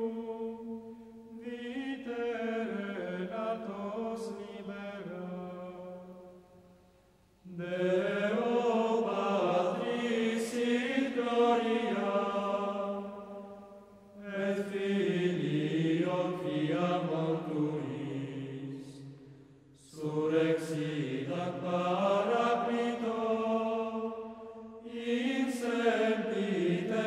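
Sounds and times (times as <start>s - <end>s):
person singing slow chant: 0.0s - 6.7s, 7.4s - 27.0s.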